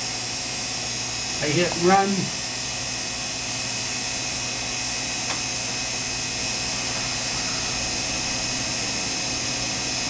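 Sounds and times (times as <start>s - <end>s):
electric motor hum: 0.0s - 10.0s.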